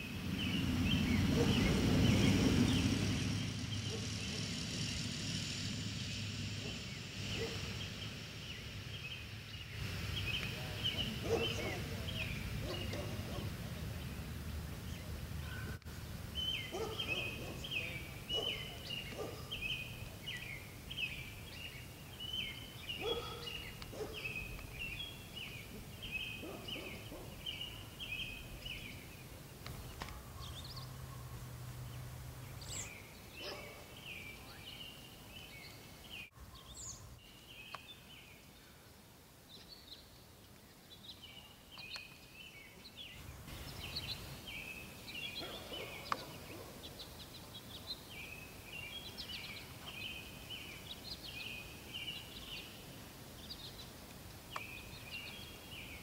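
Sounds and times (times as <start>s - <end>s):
songbird singing high chirps: 0.0s - 4.4s, 6.6s - 14.3s, 14.9s - 31.2s, 31.8s - 38.8s, 39.5s - 56.0s.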